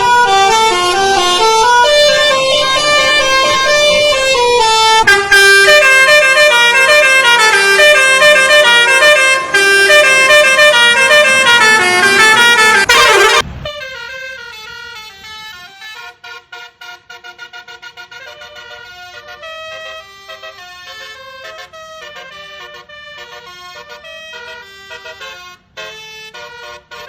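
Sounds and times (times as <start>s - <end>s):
multi-trumpet horn playing a tune: 0.0s - 27.0s.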